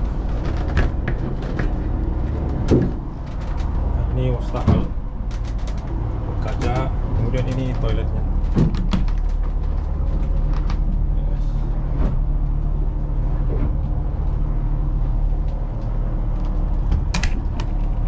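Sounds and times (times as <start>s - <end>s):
low machinery drone: 0.0s - 18.0s.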